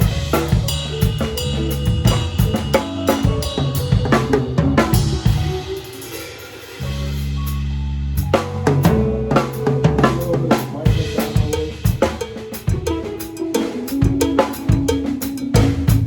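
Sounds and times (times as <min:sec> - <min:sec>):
bass line: 0:00.0 - 0:16.0
drum kit playing a groove: 0:00.0 - 0:16.0
held pitched notes: 0:00.0 - 0:16.0.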